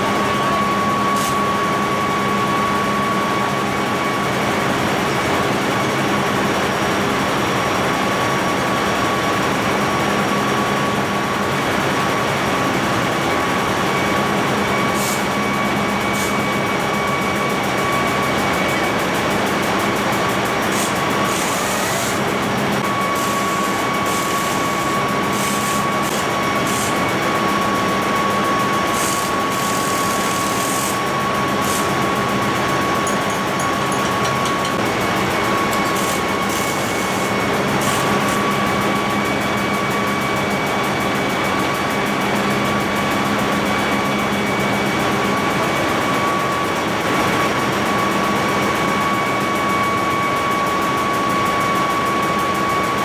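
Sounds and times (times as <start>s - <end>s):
engine room machinery din: 0.0s - 53.0s.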